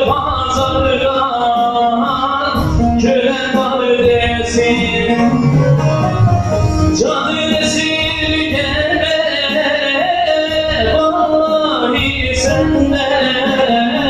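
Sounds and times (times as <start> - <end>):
arranger keyboard accompaniment: 0.0 - 14.0.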